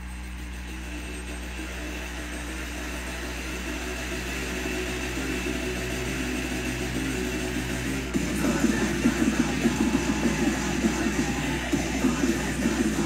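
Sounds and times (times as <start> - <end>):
heavy rock music: 0.6 - 13.0.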